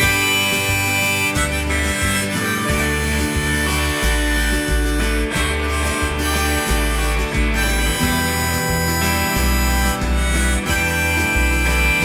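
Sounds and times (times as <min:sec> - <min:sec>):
instrumental pop music: 0:00.0 - 0:12.0.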